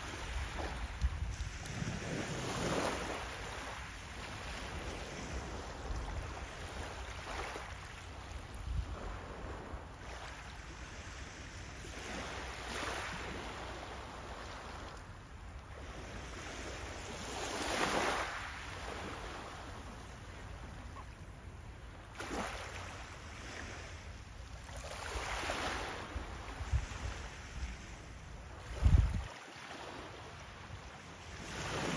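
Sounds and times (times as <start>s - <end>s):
waves lapping on pebble beach: 0.0s - 15.0s, 15.7s - 20.4s, 22.1s - 31.9s.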